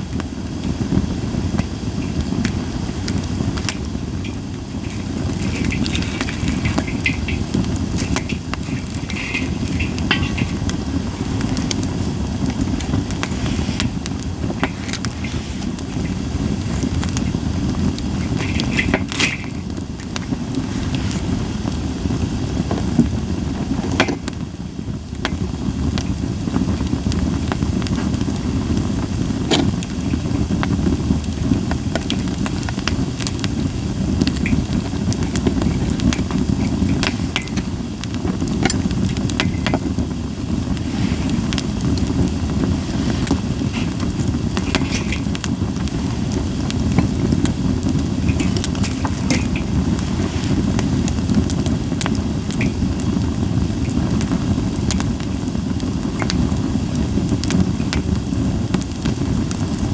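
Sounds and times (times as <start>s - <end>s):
campfire crackling: 0.0s - 59.9s
sharp pops and snaps: 0.9s - 21.8s, 25.2s - 56.6s.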